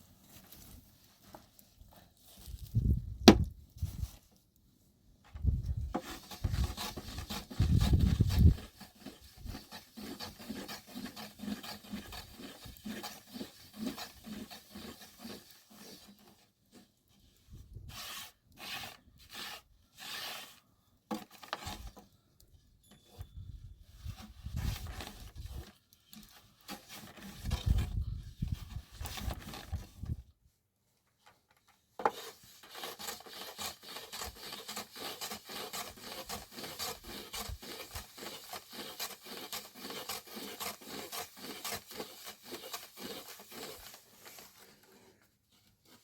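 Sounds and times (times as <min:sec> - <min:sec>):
rubbing and scraping on wood: 0:05.3 - 0:22.0, 0:23.9 - 0:30.2, 0:31.2 - 0:46.0.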